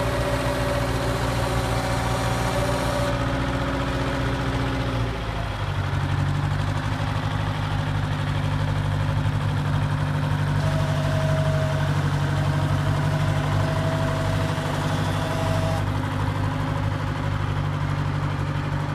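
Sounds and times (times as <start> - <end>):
road grader engine idling: 0.0 - 18.9.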